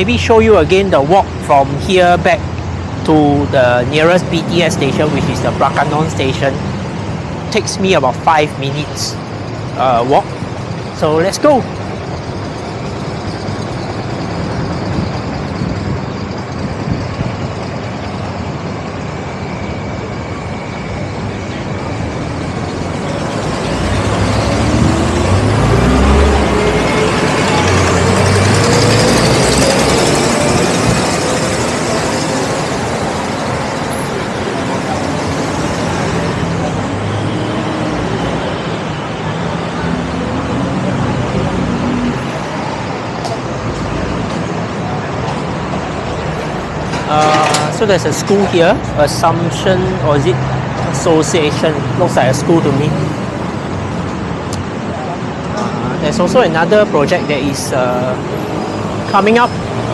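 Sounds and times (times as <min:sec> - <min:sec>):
heavy vehicle engine pulling away: 0:00.0 - 0:59.9
road traffic: 0:00.0 - 0:59.9.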